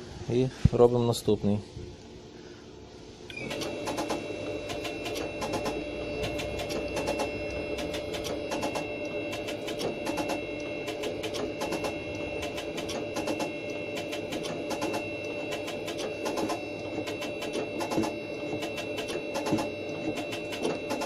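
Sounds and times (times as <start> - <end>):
machine tool whine: 3.3 - 21.0.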